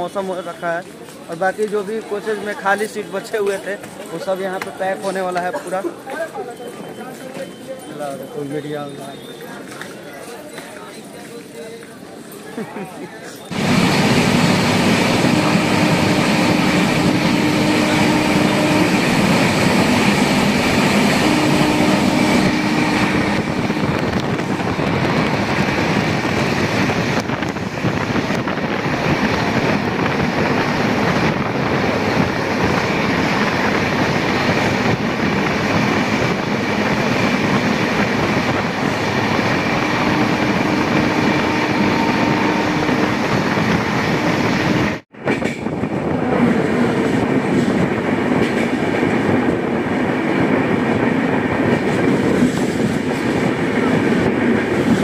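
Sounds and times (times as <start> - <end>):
train running on rails: 0.0 - 55.0.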